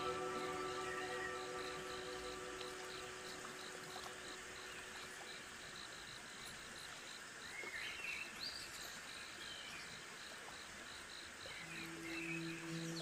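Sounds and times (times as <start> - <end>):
crickets chirping: 0.0 - 13.0
light rain hiss: 0.0 - 13.0.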